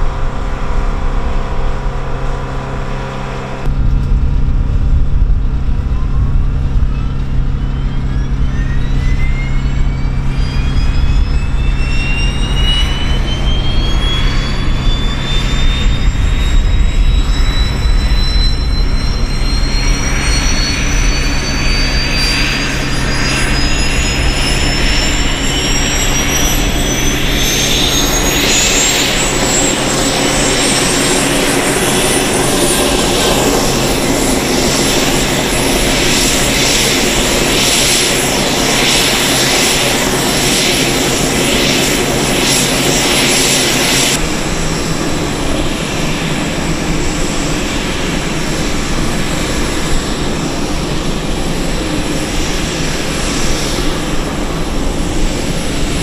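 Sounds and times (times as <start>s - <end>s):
low drone: 0.0s - 56.0s
turboprop engine whine rising: 0.0s - 56.0s.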